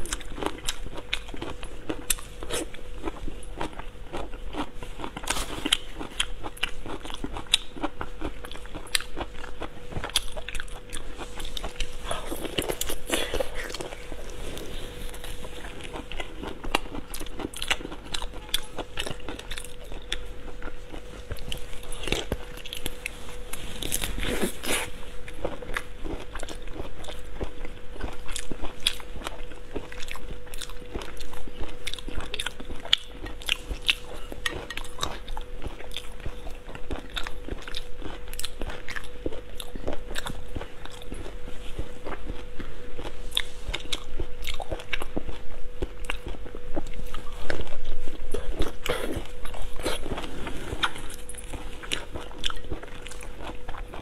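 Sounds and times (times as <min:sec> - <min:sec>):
faint steady hum: 0:00.0 - 0:54.0
person chewing and crunching food: 0:00.0 - 0:54.0.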